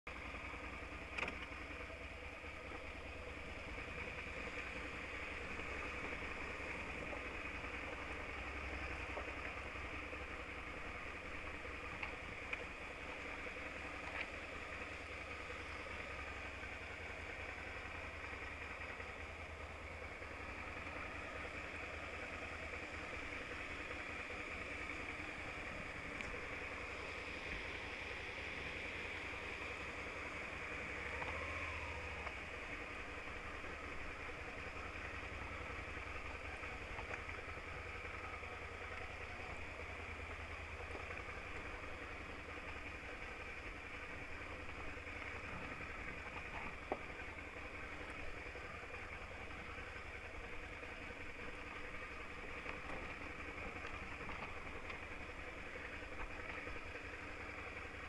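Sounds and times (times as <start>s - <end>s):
motorcycle engine running: 0.1s - 58.0s.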